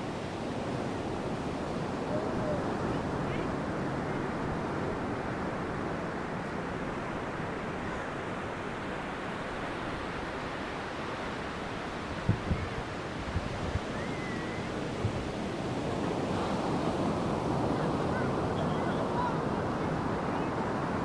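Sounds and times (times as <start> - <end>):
sea surf washing onto beach: 0.0 - 21.0.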